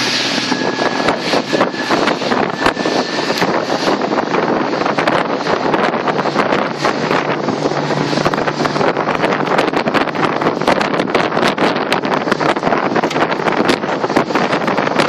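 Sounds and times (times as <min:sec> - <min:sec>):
outboard motor droning: 0:00.0 - 0:15.0
wind buffeting microphone: 0:00.0 - 0:15.0.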